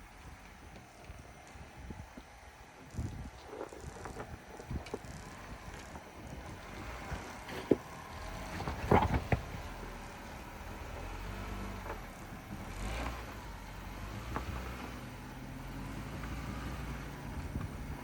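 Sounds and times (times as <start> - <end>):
car engine running low: 0.0 - 18.0.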